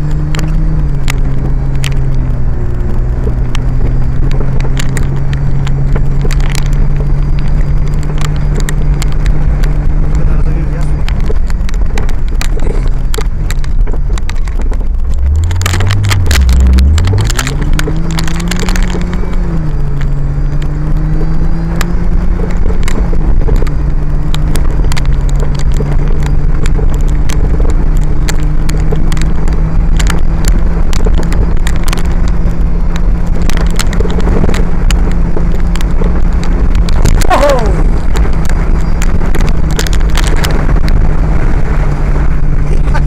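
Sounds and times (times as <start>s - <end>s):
clicks and knocks from bumpy ride: 0.0s - 43.0s
off-road vehicle engine running: 0.0s - 43.0s.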